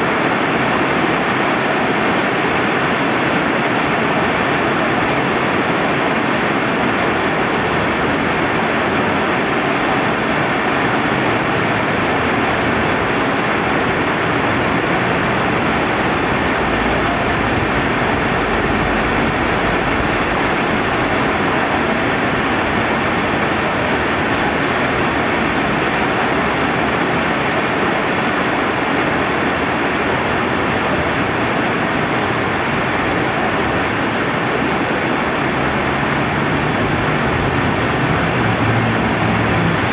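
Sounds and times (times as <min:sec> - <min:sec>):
flowing river: 0:00.0 - 0:39.9
steady rain: 0:00.0 - 0:39.9.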